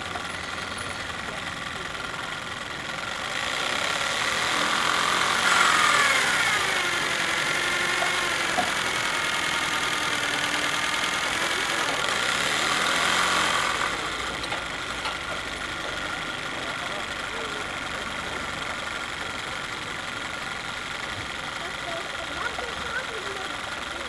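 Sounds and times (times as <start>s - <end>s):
small steam engine running: 0.0s - 24.0s.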